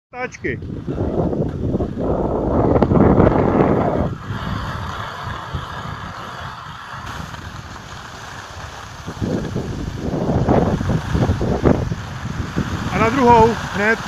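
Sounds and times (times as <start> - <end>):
wind buffeting microphone: 0.2 - 14.0
skis sliding on snow: 0.8 - 14.0.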